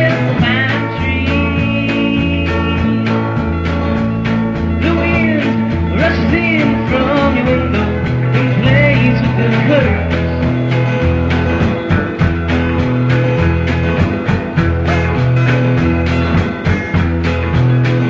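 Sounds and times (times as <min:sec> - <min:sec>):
rock background music: 0:00.0 - 0:18.0.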